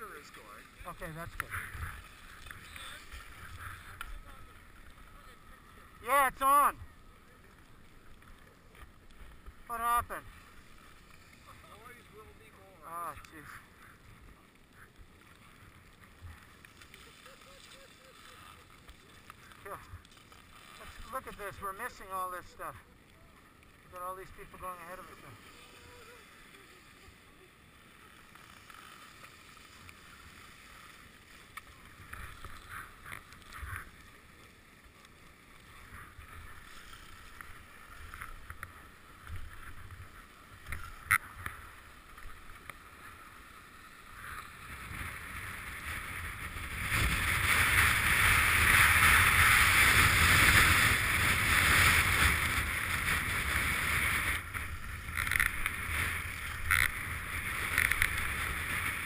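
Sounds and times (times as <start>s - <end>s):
skis scraping over snow: 0.0s - 59.0s.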